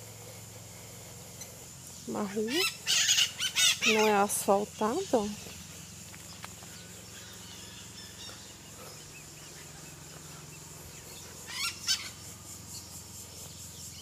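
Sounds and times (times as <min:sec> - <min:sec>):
birds calling: 0:00.0 - 0:14.0
low steady hum: 0:00.0 - 0:14.0.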